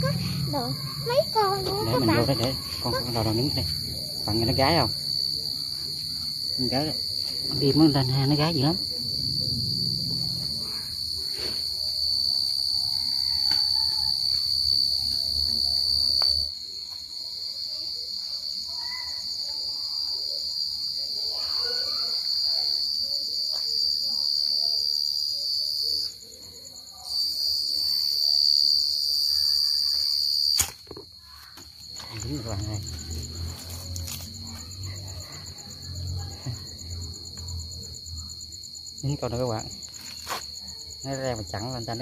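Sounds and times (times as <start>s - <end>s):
cricket chirping trill: 0.0s - 42.0s.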